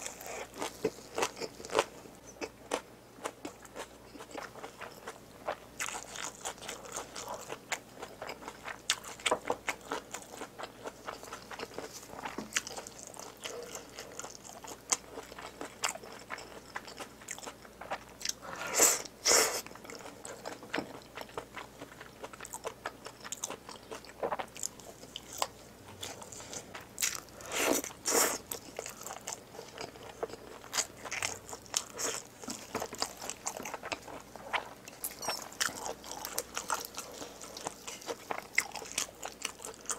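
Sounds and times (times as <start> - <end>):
person chewing wetly: 0.0 - 39.9.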